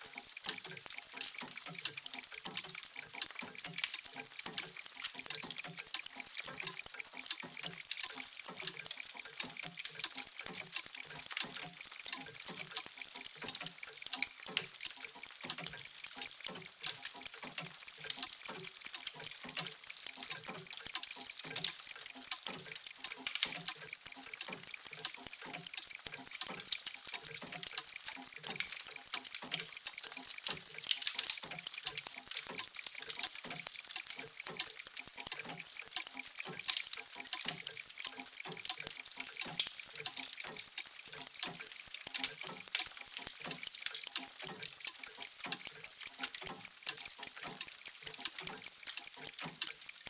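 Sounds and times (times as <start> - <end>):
mechanical clocks ticking: 0.0 - 50.0.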